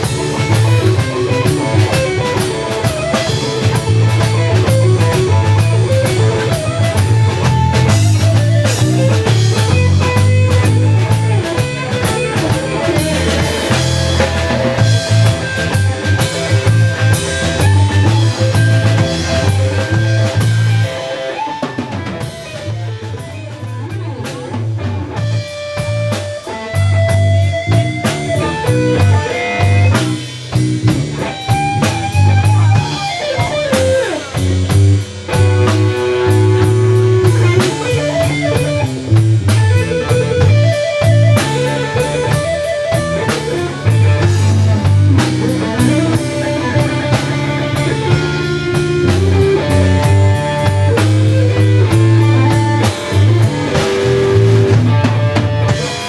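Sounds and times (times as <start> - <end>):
blues rock band playing: 0.0 - 56.0.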